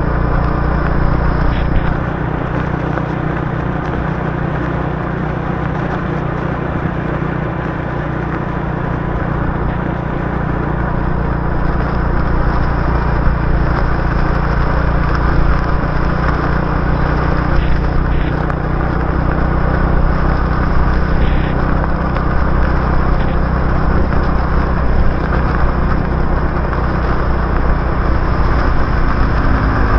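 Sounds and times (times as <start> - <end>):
motorbike engine running: 0.0 - 29.9
tyres on wet road: 0.0 - 29.9.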